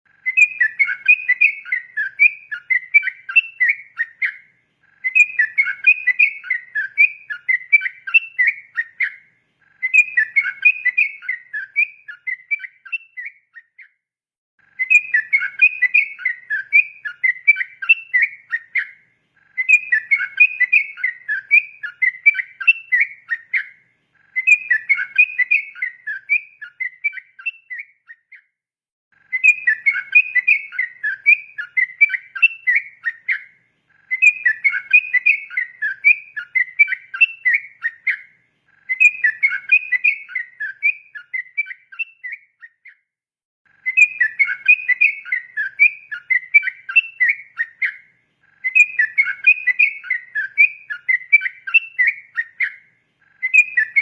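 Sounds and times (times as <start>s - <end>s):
bird singing chattering song: 0.1s - 14.0s, 14.6s - 28.5s, 29.2s - 43.1s, 43.7s - 54.0s.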